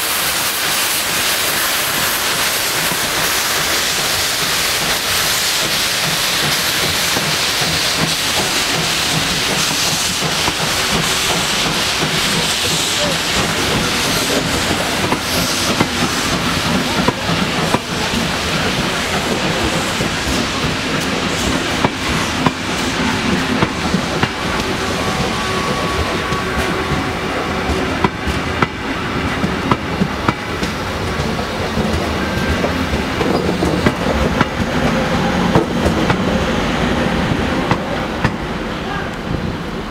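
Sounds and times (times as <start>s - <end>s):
steam locomotive hissing: 0.0s - 39.9s
train coaches rolling past: 0.0s - 39.9s.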